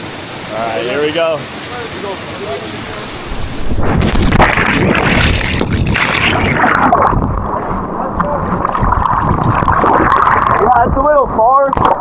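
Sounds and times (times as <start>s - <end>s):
water splashing and churning: 0.0s - 12.0s.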